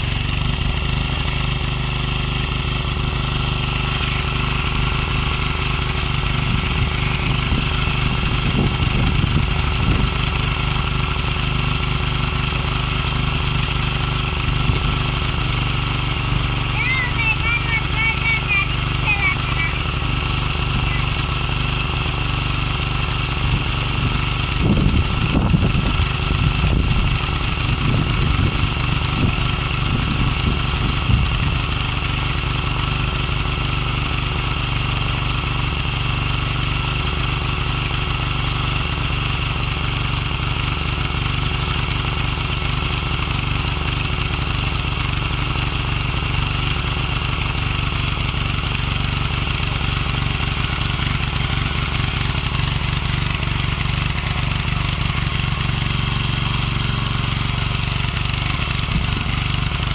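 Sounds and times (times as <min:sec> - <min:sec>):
tiller engine running: 0:00.0 - 0:59.9.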